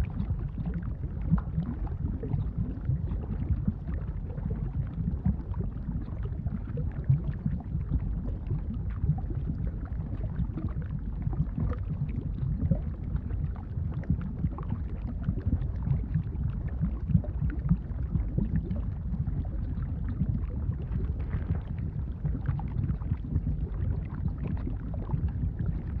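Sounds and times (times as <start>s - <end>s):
lava bubbling and popping: 0.0s - 26.0s.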